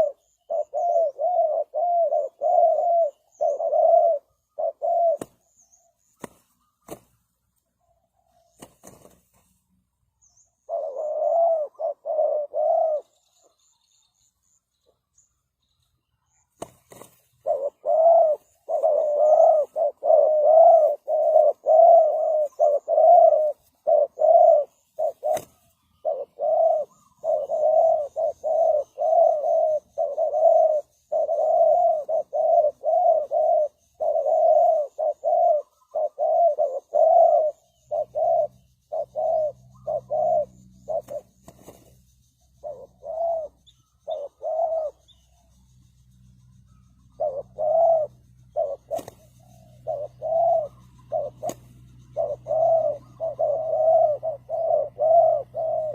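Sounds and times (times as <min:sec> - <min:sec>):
dove cooing: 0:00.0 - 0:09.4, 0:10.2 - 0:14.1, 0:16.4 - 0:55.9.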